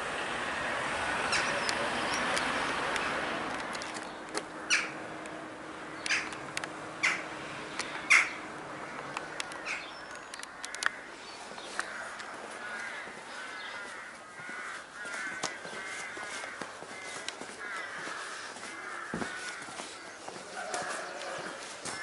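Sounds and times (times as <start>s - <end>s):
birds calling and chirping: 1.2s - 22.0s.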